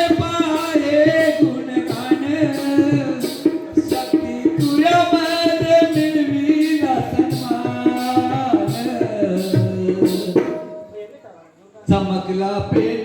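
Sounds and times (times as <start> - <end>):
percussion beat: 0.0 - 11.1.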